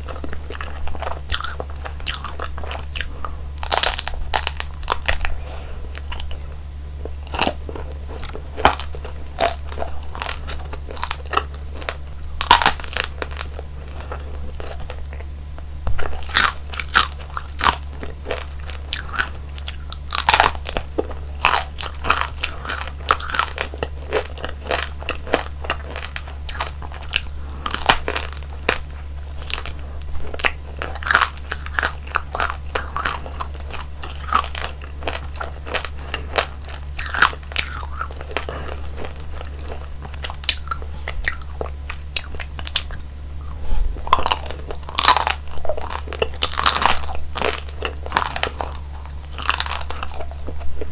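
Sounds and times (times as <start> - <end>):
crunching and chewing: 0.0 - 50.9
low hum: 0.0 - 50.9.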